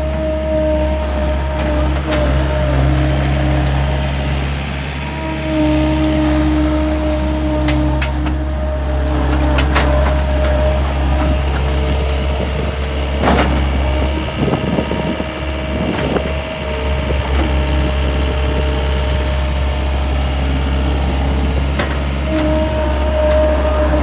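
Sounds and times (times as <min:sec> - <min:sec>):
loader engine running: 0:00.0 - 0:24.0.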